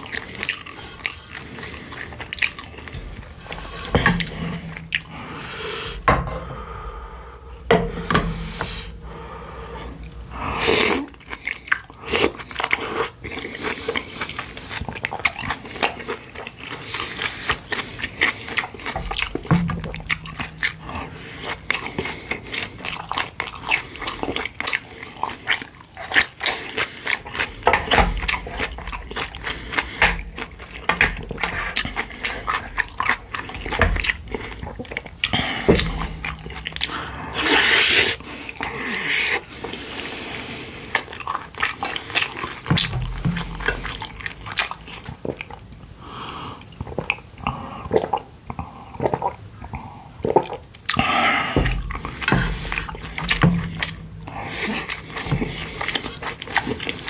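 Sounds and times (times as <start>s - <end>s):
wet chewing and lip smacking: 0.0s - 6.0s, 8.9s - 57.0s.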